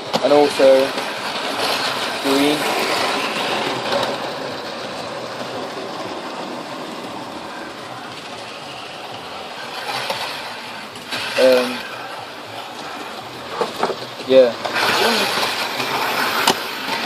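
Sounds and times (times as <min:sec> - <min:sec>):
model train running on rails: 0:00.0 - 0:17.0.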